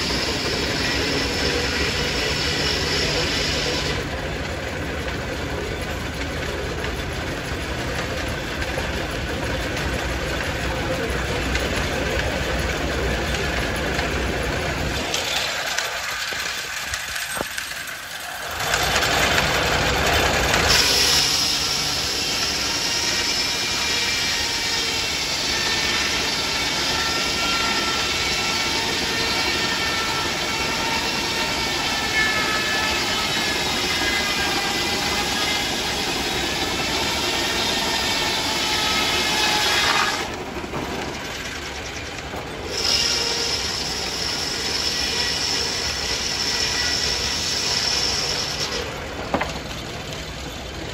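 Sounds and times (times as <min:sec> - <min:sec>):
circular saw blade cutting log: 0:00.0 - 0:04.3, 0:05.0 - 0:49.8.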